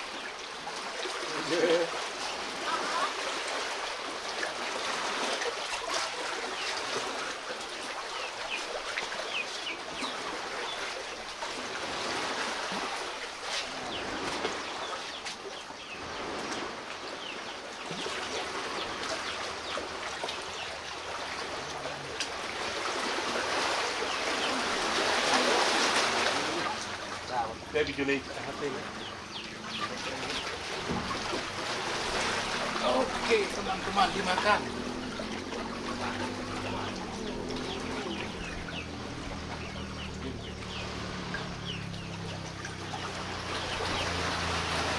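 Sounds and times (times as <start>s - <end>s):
lake waves lapping shore: 0.0s - 44.9s.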